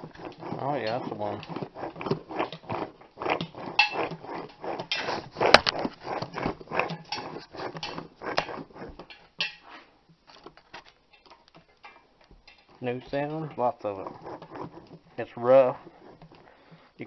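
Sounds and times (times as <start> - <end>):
wheel bearing grinding and clicking: 0.0 - 17.0.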